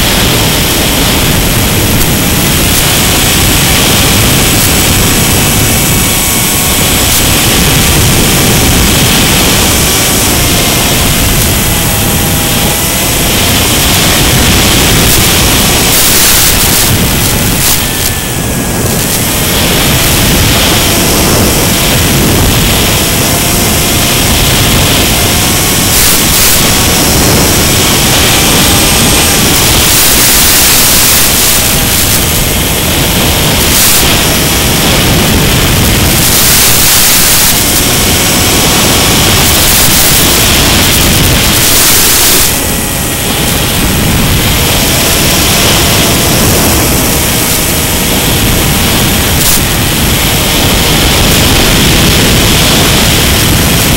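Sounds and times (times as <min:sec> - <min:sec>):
faint wavering whines: 0:00.0 - 0:53.9
loud steady hiss: 0:00.0 - 0:53.9.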